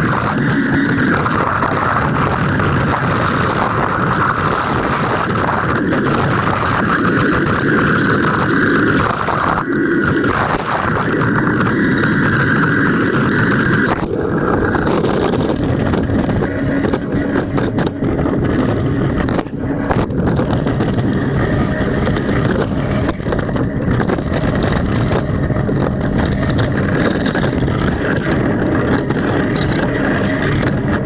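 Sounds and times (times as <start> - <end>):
diesel engine under load: 0.0 - 31.0.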